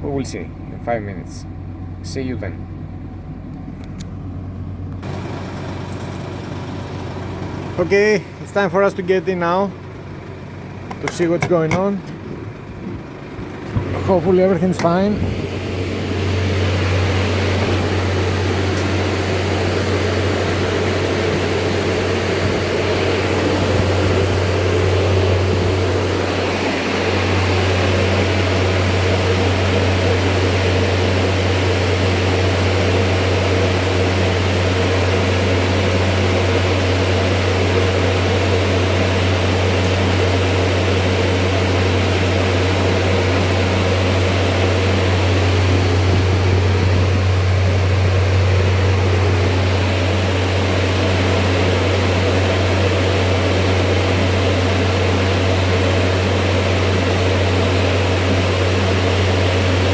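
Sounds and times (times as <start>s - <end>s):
refrigeration unit humming: 0.0s - 59.9s.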